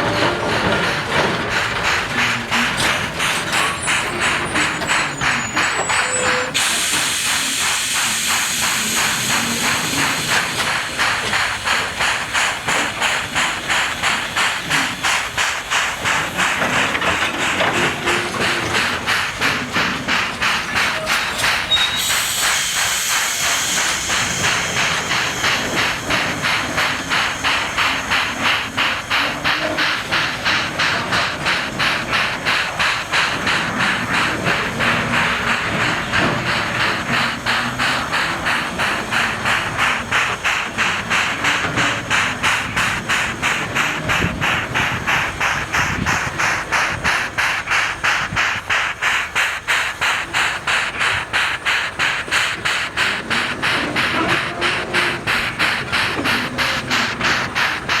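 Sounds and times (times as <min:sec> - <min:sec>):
steam hissing: 0:00.0 - 0:58.0
steam locomotive chuffing: 0:00.0 - 0:58.0.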